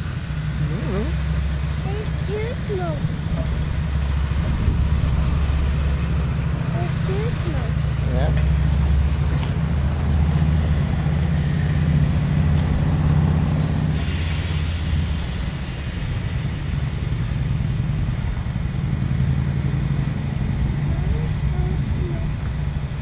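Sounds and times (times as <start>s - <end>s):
steam hissing: 0.0s - 23.0s
steam locomotive rumbling: 0.0s - 23.0s.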